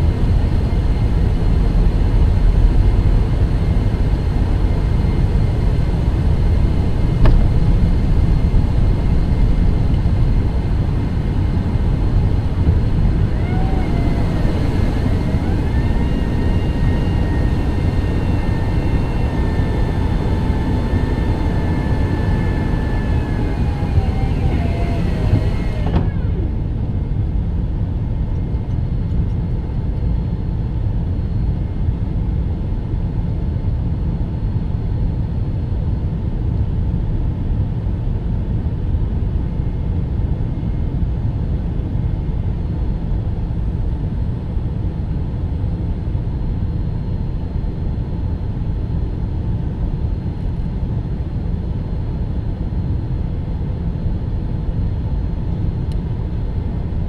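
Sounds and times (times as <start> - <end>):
faint engine whine: 0.0 - 57.0
jet engine low rumble in cabin: 0.0 - 57.0.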